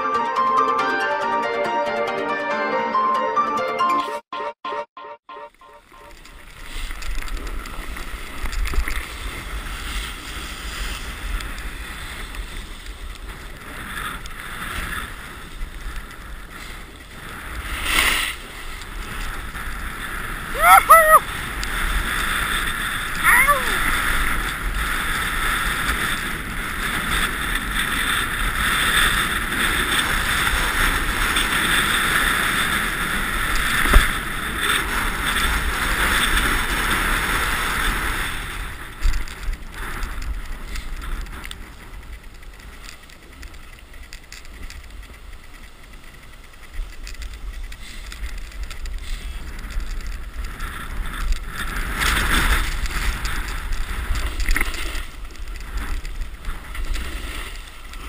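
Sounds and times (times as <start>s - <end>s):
skis scraping on snow: 5.7s - 20.5s, 21.2s - 58.0s.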